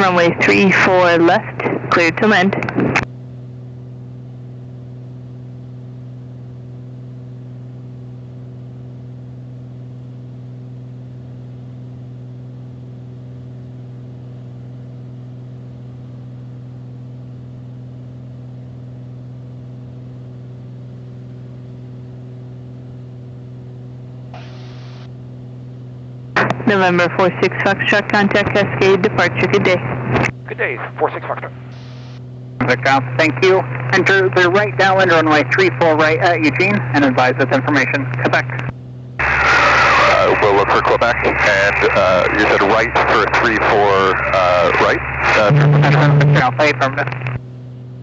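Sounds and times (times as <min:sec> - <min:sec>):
piston engine and propeller droning: 0:00.0 - 0:48.0.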